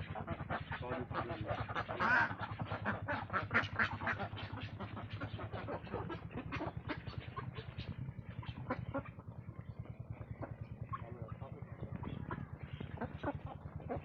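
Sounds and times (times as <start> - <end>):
ducks quacking: 0.0 - 14.0
steady low hum: 0.0 - 14.0.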